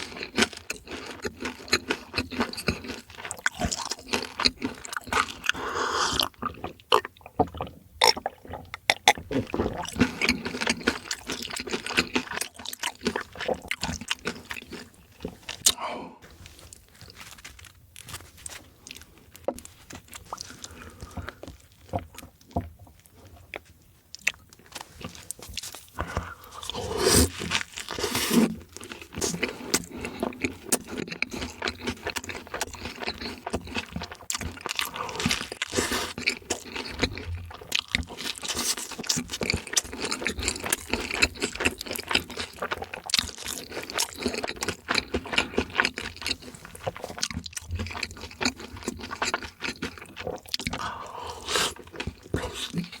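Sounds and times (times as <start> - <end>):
person eating crunchy food: 0.0 - 53.0.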